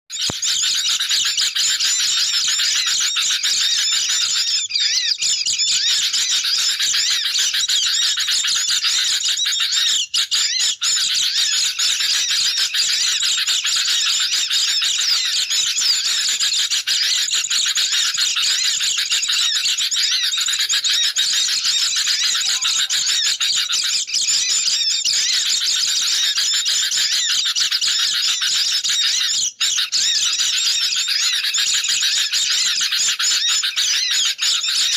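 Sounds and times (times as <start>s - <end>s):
birds chattering and twittering: 0.1s - 34.9s.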